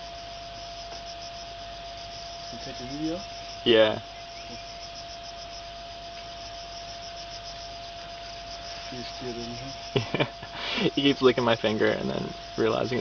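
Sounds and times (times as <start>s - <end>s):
background hiss: 0.0s - 13.0s
cricket chirping: 0.0s - 13.0s
steady faint tone: 0.0s - 13.0s.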